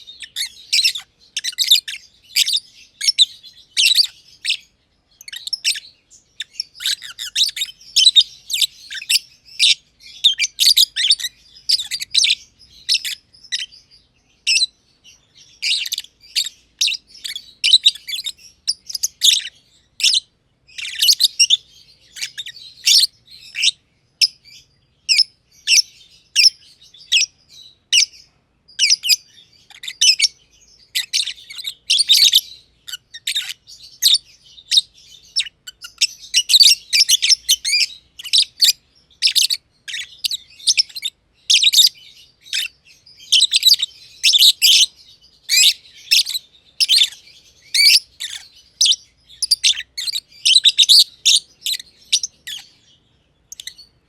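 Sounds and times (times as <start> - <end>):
lovebirds chirping shrilly: 0.0 - 54.0.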